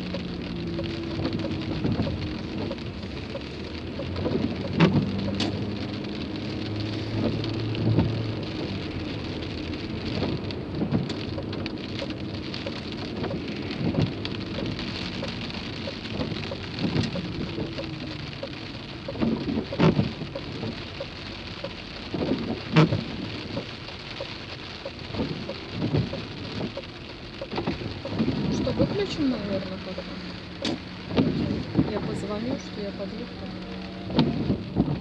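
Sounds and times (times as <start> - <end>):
rain drumming on car roof: 0.0 - 35.0.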